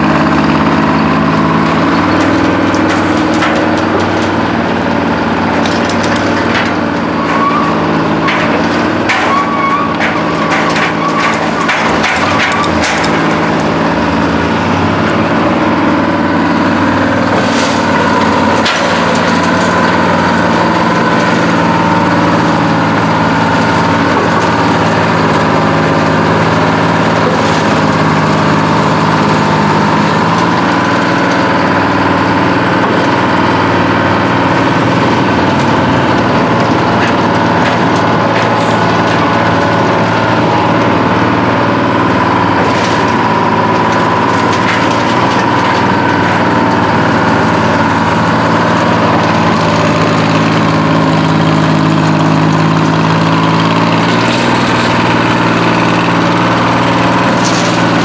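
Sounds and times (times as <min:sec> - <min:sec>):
cable shovel engine running: 0:00.0 - 0:58.0.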